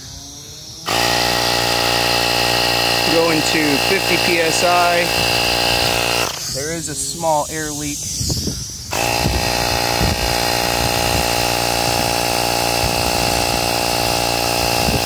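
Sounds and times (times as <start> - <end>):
air compressor running: 0.8 - 8.0, 8.9 - 15.0.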